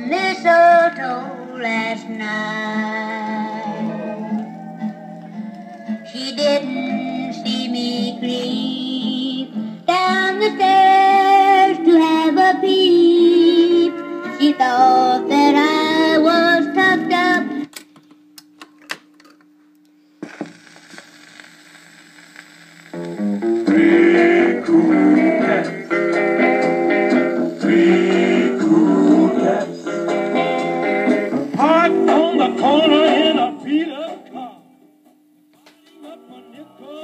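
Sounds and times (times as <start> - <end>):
song with singing on record player: 0.0 - 17.7, 20.2 - 37.0
faint steady hum: 0.0 - 37.0.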